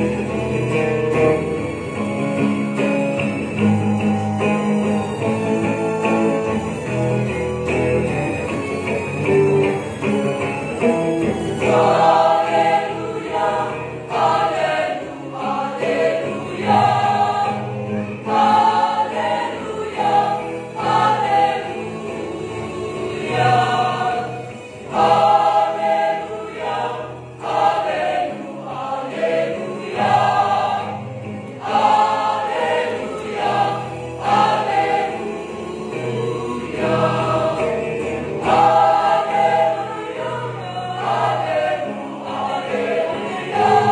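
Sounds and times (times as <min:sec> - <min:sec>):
choir singing a hymn: 0:00.0 - 0:03.7, 0:04.6 - 0:43.9.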